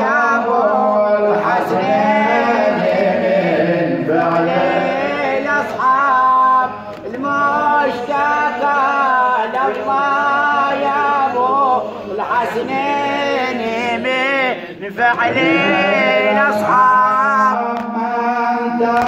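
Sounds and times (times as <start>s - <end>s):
man singing a lament: 0.0s - 19.0s.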